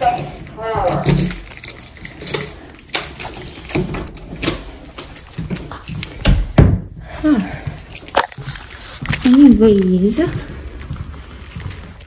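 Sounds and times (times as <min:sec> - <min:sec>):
clothing rustling: 0:00.0 - 0:12.0
footsteps: 0:00.0 - 0:12.0.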